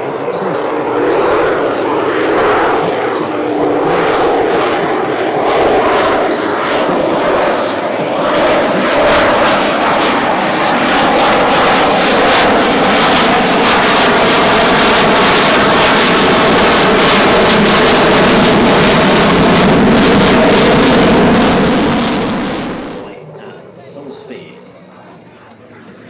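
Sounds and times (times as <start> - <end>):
jet engine roar: 0.0 - 23.2.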